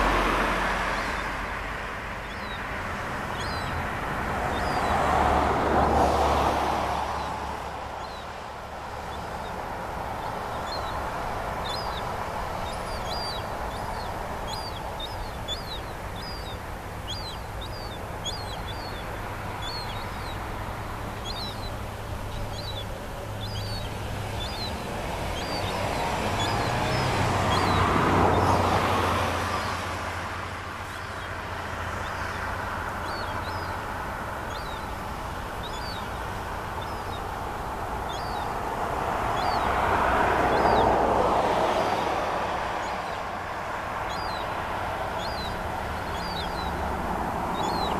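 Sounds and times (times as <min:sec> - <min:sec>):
traffic noise: 0:00.0 - 0:47.9.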